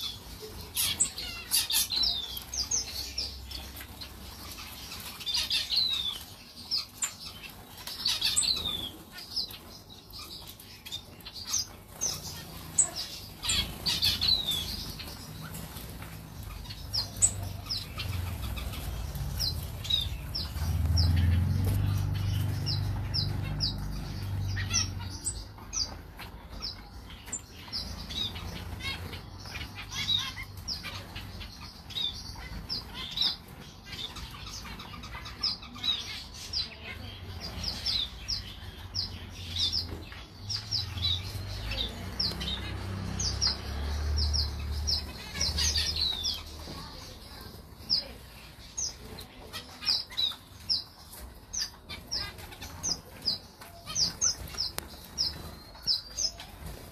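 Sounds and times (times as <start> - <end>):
finches chirping: 0.0 - 56.9.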